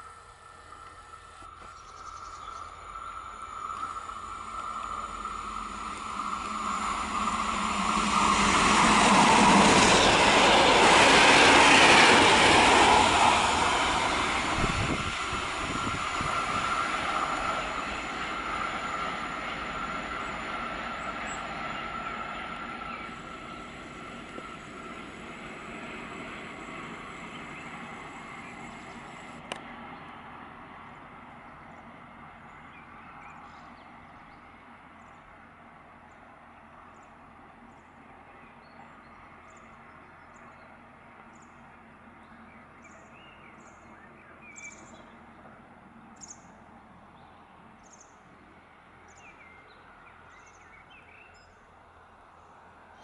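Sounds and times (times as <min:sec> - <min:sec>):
train moving away: 0:00.0 - 0:53.0.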